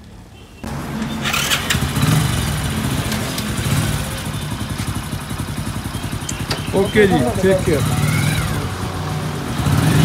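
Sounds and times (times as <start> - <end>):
motorcycle engine running: 0.7 - 10.0.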